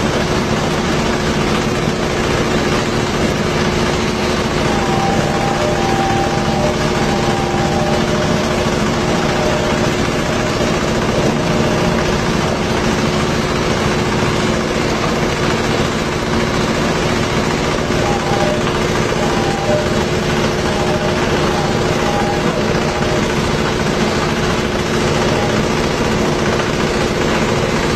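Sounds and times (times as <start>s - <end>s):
machine droning: 0.0s - 27.9s.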